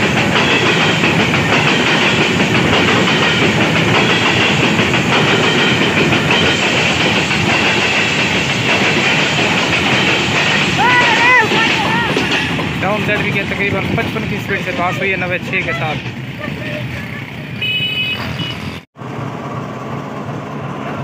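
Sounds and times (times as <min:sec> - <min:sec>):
wheels clattering over rail joints: 0:00.0 - 0:17.8
goods train wheels rumbling: 0:00.0 - 0:21.0.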